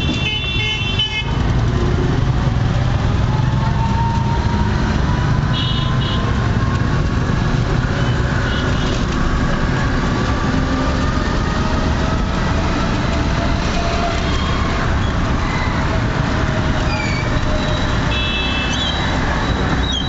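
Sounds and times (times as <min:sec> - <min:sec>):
passing traffic: 0:00.0 - 0:20.0
scooter engine and road noise: 0:00.0 - 0:20.0.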